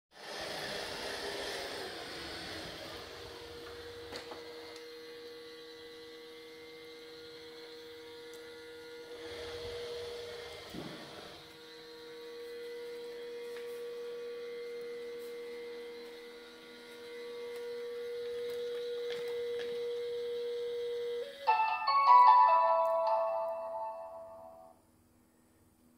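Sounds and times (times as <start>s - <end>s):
robot vacuum motor whining: 0.2s - 21.5s.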